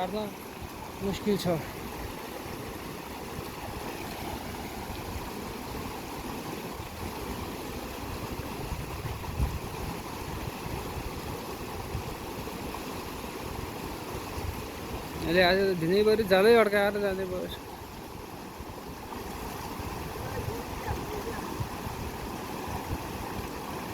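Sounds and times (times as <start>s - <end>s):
river rushing: 0.0s - 23.9s.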